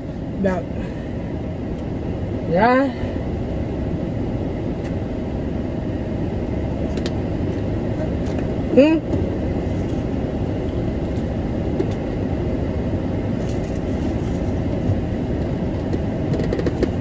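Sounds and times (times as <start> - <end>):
car engine rumble inside car: 0.0 - 17.0.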